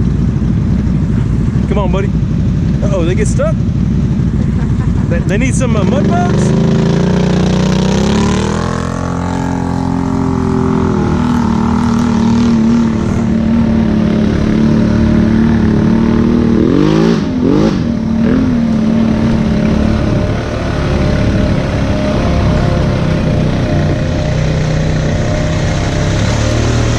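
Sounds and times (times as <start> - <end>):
atv engine revving: 0.0 - 26.9.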